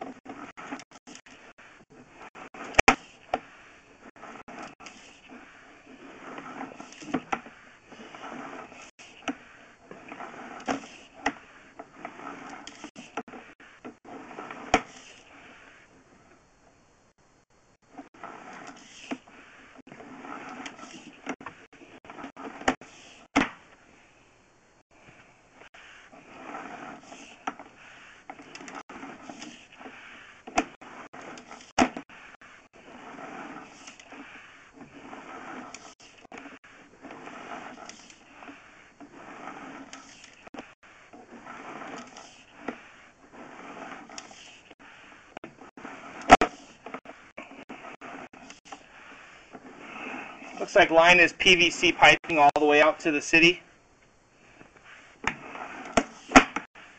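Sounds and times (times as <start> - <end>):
cable scraping in pipe: 0.0 - 16.0, 17.8 - 23.3, 25.0 - 53.6, 54.4 - 56.9.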